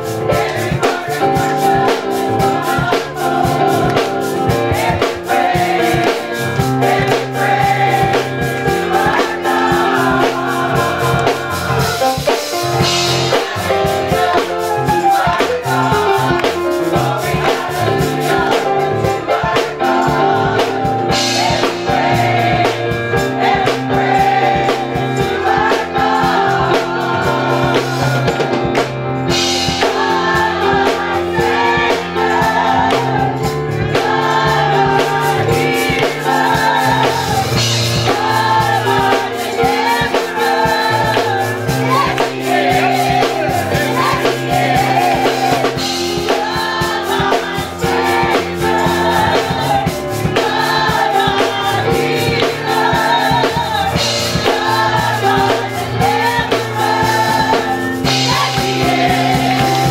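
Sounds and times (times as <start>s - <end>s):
mixed choir singing gospel: 0.0s - 59.9s.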